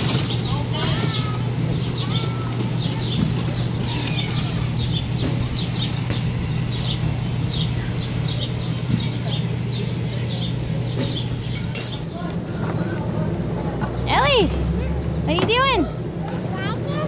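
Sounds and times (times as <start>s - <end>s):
low machine hum: 0.0s - 17.0s
small birds chirping: 0.0s - 17.0s.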